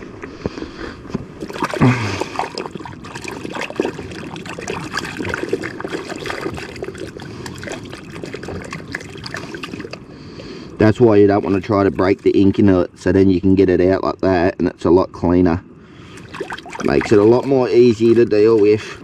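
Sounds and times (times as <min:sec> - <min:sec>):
water splashing and sloshing: 0:00.0 - 0:13.6, 0:15.9 - 0:19.0.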